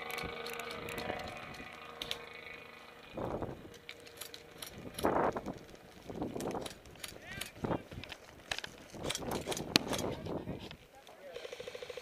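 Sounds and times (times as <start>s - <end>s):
rustling through dry brush: 0.0s - 11.8s.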